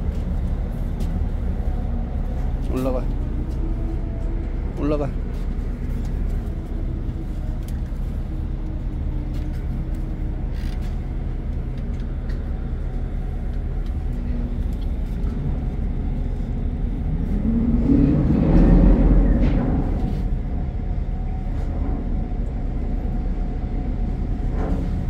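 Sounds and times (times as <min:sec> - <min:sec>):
ship machinery low drone: 0:00.0 - 0:25.0.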